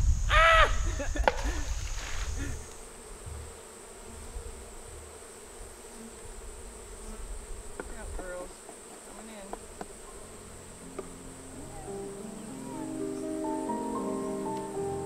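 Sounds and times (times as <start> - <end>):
high-pitched insect trill: 0.0 - 3.6, 6.4 - 15.0
honeybees buzzing: 0.0 - 15.0.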